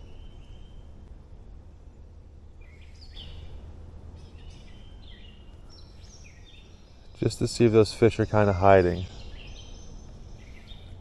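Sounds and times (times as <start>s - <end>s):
bird chirping: 0.0s - 0.9s, 2.6s - 3.6s, 4.2s - 11.0s
steady low rumble: 0.0s - 11.0s.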